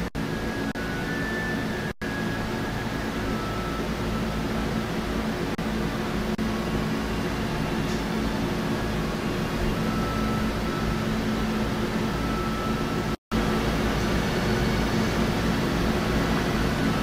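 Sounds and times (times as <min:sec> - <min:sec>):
droning hum and hiss: 0:00.0 - 0:17.0.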